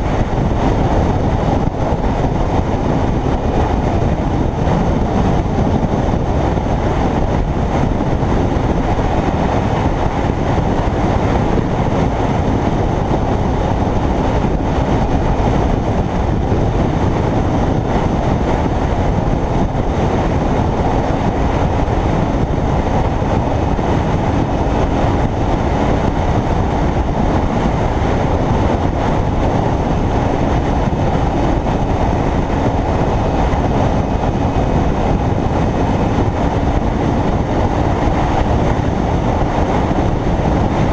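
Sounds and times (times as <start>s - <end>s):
motorcycle engine humming: 0.0s - 40.9s
wind and road noise: 0.0s - 40.9s.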